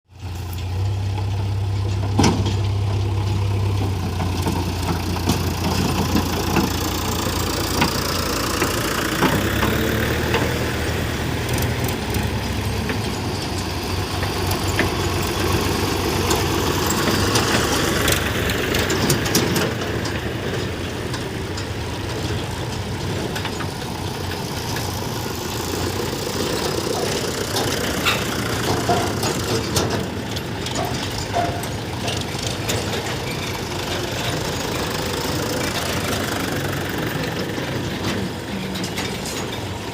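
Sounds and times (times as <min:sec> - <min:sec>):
diesel engines running: 0:00.1 - 0:39.9.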